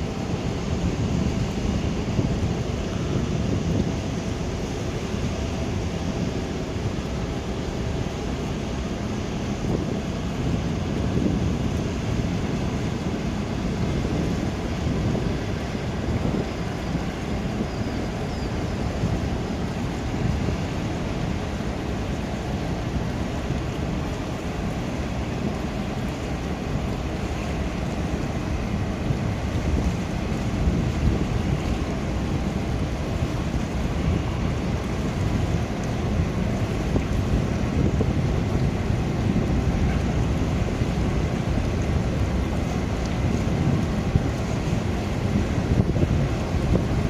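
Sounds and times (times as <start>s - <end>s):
continuous low rumble: 0.0s - 47.0s
wind buffeting microphone: 0.0s - 47.0s.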